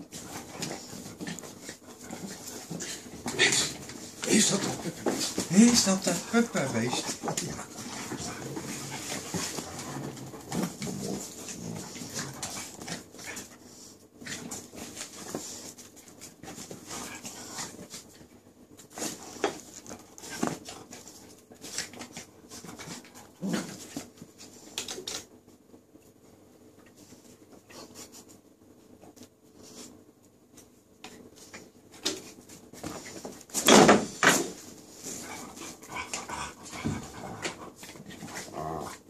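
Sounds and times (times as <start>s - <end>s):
dogs scuffling: 0.0s - 25.2s, 29.2s - 39.0s.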